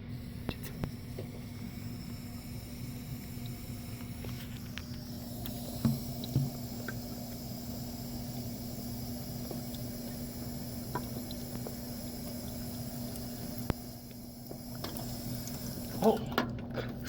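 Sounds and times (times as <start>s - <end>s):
constant low hum: 0.0s - 17.0s
drinking fountain water running: 0.0s - 17.0s.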